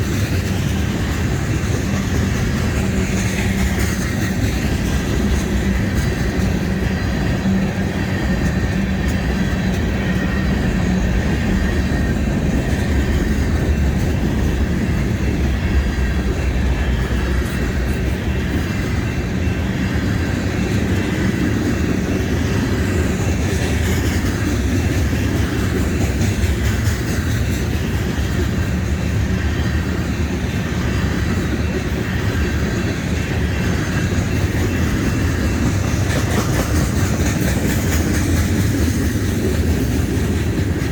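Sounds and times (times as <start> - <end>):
train rumbling past on rails: 0.0 - 40.9.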